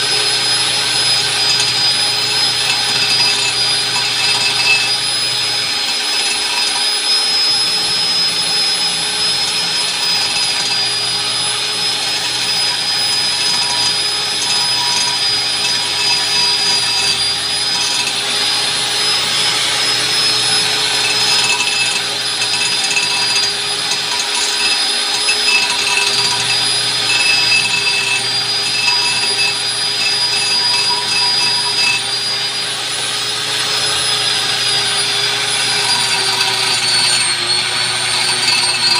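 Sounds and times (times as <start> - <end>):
power tool motor whining: 0.0 - 38.9.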